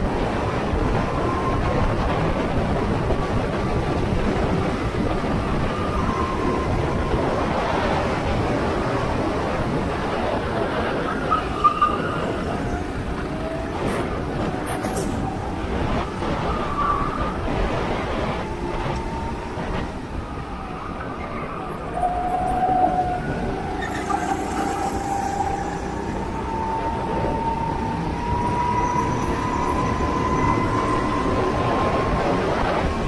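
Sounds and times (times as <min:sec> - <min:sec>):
go-kart engine whine: 0:04.4 - 0:33.0.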